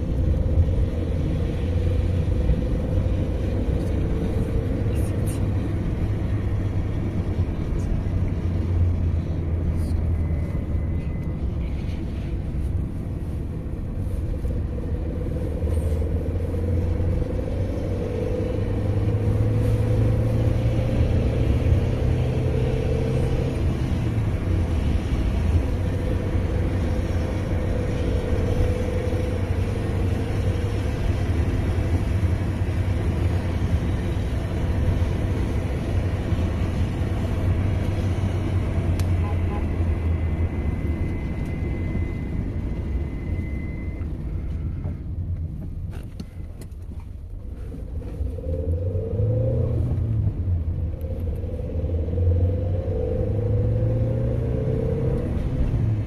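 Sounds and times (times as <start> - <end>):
engine rumbling: 0.0 - 56.0.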